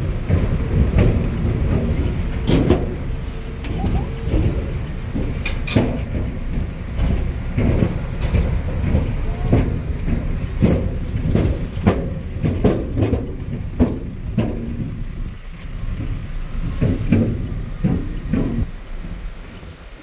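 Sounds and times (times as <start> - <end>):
knocks and rattles on bridge: 0.0 - 20.0
vehicle engine rumble: 0.0 - 20.0.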